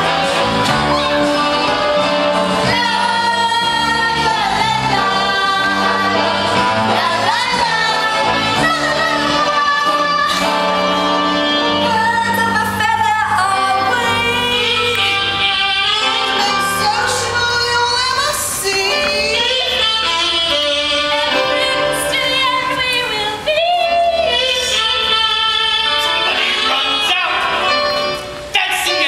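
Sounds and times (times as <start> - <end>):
instrumental accompaniment: 0.0 - 29.0
women singing: 0.1 - 20.3, 21.0 - 26.9.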